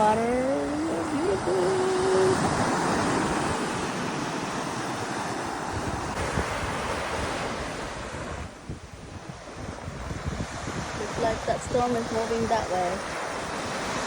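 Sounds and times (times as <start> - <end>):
waves washing against shore: 0.0 - 14.0
wind buffeting microphone: 0.0 - 14.0.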